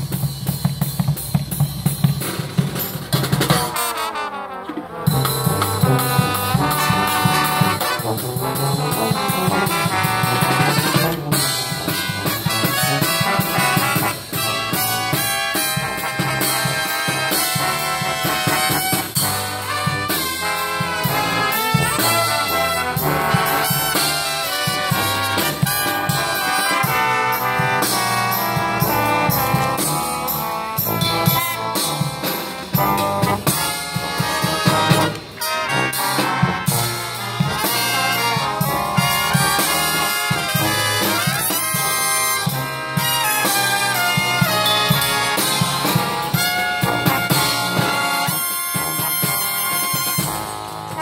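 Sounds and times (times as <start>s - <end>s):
marching brass band playing: 0.0s - 51.0s.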